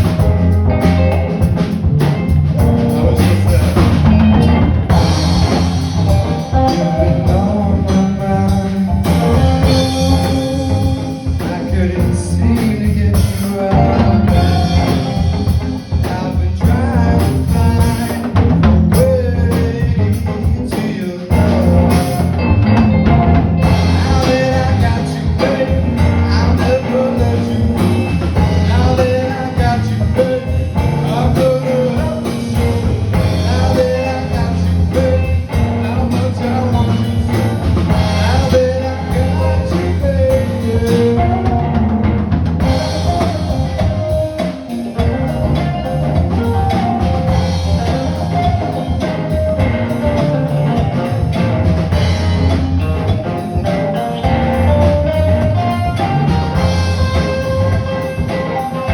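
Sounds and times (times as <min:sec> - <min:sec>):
blues band through sound system: 0:00.0 - 0:58.9
drum kit: 0:00.0 - 0:58.9
guitar: 0:00.0 - 0:58.9.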